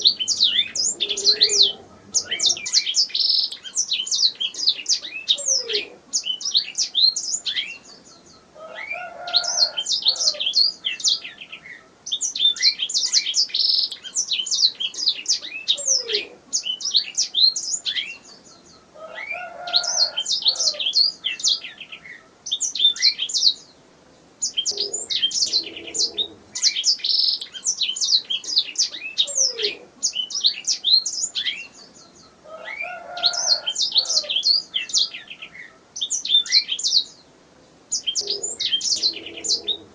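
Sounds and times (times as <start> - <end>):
canary singing: 0.0 - 23.7, 24.4 - 37.2, 37.9 - 39.9.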